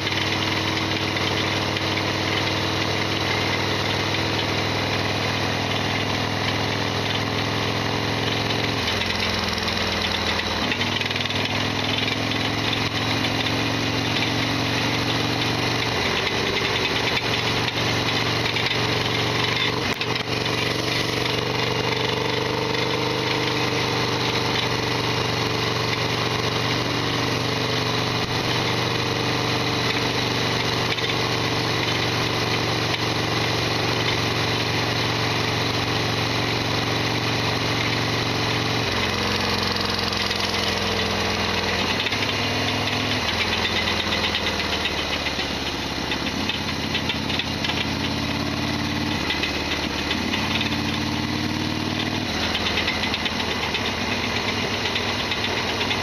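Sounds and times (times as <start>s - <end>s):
loud engine rattling: 0.0s - 56.0s
motorcycle engine running: 0.0s - 56.0s.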